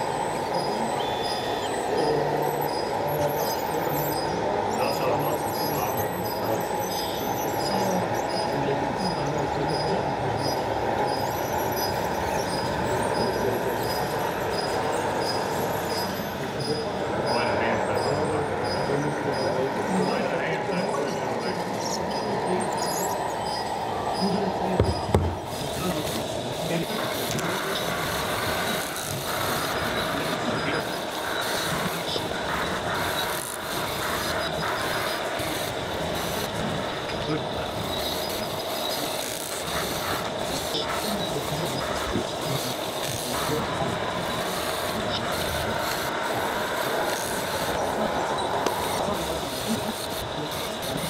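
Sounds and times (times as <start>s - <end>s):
model machines mechanical noise: 0.0s - 51.0s.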